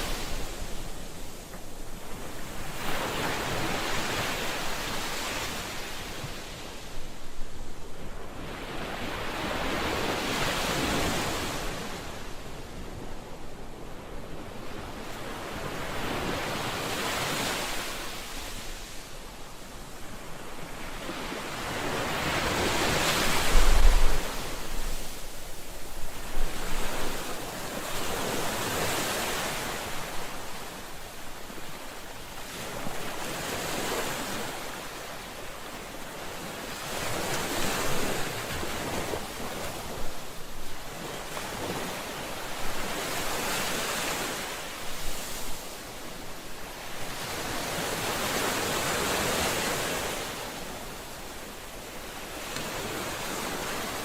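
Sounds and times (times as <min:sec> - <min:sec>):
ocean waves breaking on shore: 0:00.0 - 0:54.0
wind: 0:00.0 - 0:54.0.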